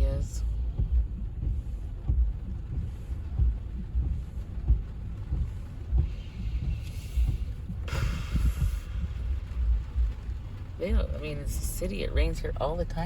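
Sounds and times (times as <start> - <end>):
low rhythmic thumps: 0.0 - 13.0
road rumble in car: 0.0 - 13.0
rushing hiss of wet road: 0.0 - 13.0.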